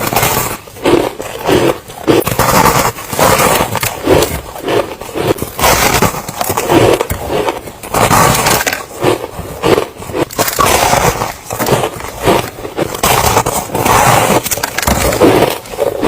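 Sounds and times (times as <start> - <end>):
person chewing ice: 0.0 - 16.0.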